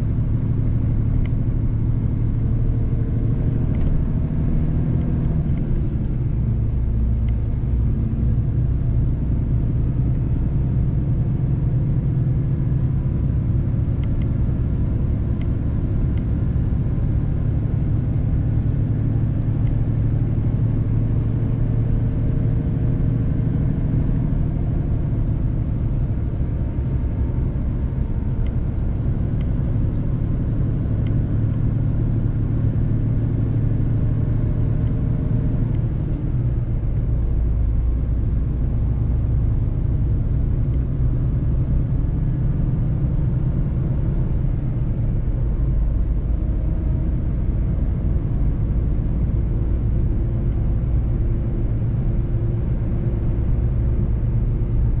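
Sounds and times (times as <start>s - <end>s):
road noise: 0.0s - 55.0s
truck engine drone: 0.0s - 55.0s.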